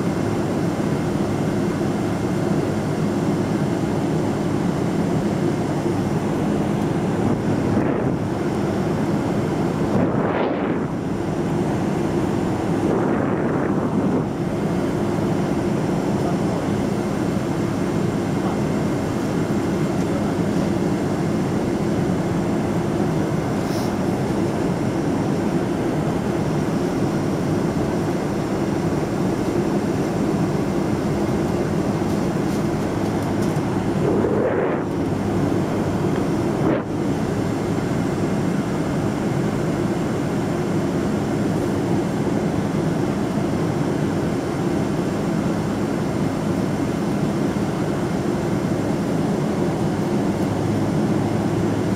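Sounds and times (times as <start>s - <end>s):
jet engines and airflow in cabin: 0.0s - 51.9s.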